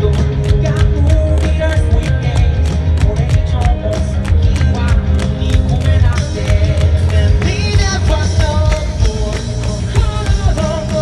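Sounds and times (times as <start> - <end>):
live rock band playing: 0.0 - 11.0
person singing: 0.0 - 11.0.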